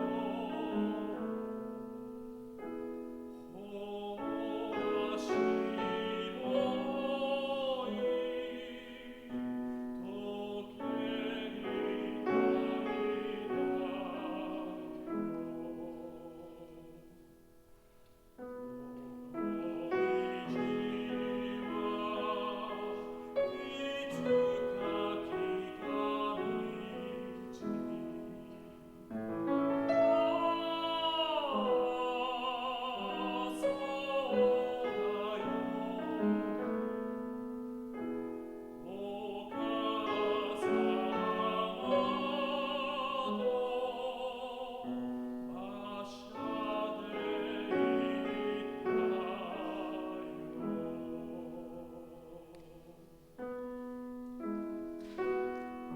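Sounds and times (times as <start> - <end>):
operatic tenor singing: 0.0 - 17.2, 19.0 - 53.6
piano accompaniment: 0.0 - 55.9.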